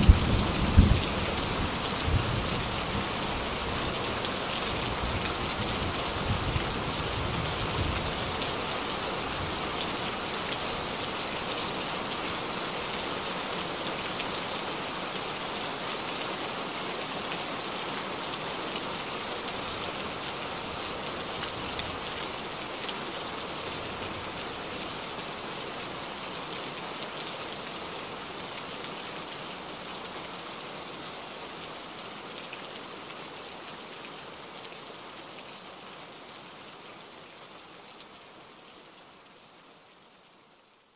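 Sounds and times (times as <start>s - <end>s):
heavy rain on water: 0.0s - 40.9s.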